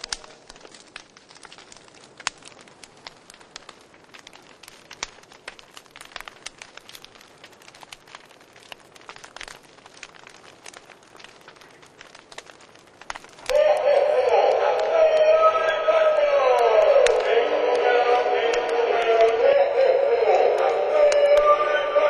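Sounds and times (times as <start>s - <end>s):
burning plastic crackling and popping: 0.0s - 22.0s
low hiss of flame: 0.0s - 22.0s.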